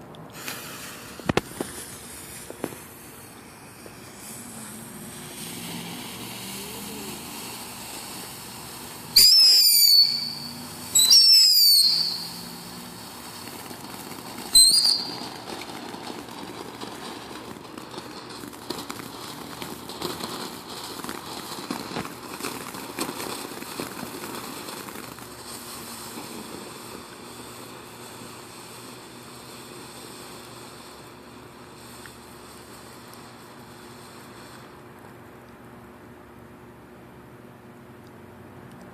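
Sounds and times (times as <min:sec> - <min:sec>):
firework whistles: 0:00.3 - 0:34.9
firework fountain hissing: 0:00.3 - 0:35.3.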